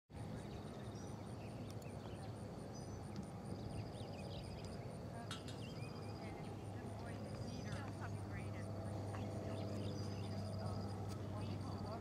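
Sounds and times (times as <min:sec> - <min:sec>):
steady low rumble: 0:00.2 - 0:12.0.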